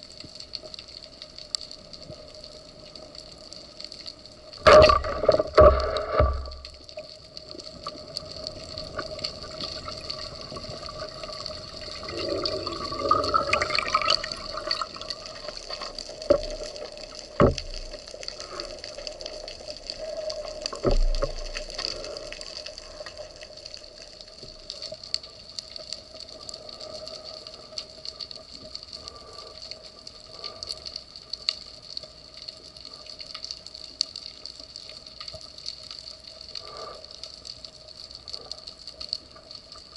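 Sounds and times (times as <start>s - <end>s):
underwater crackle of clicks: 0.0s - 39.9s.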